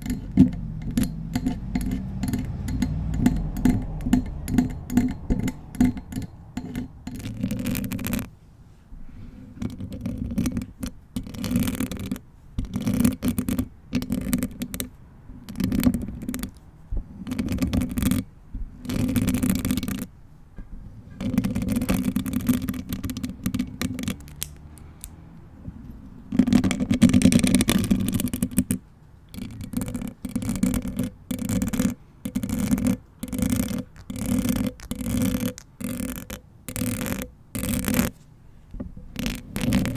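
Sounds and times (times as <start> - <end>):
fingernails scratching a microphone: 0.0 - 20.1, 20.8 - 24.9, 25.6 - 39.9.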